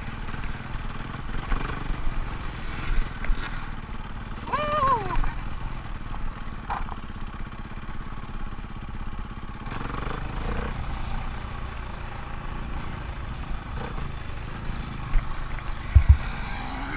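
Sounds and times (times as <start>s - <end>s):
dirt bike engine running: 0.0s - 16.9s.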